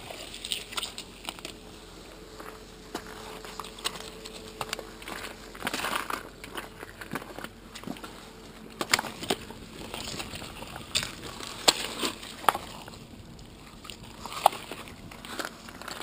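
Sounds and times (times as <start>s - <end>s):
stones and shells crunching: 0.0s - 16.0s.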